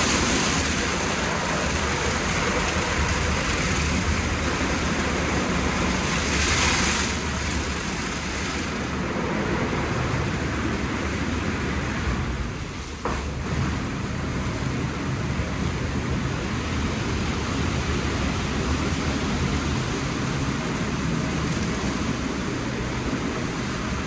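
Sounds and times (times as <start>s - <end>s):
car wash rushing noise: 0.0s - 24.0s.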